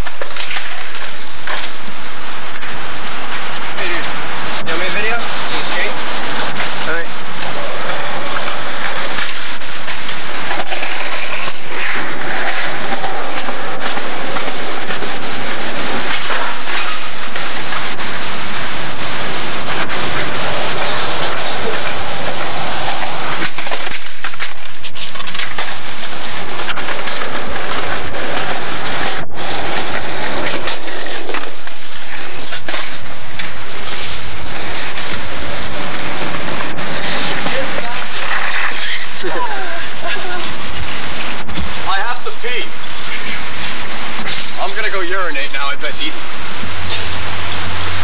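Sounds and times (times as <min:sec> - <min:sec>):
skateboard wheels rolling on concrete: 0:00.0 - 0:41.8.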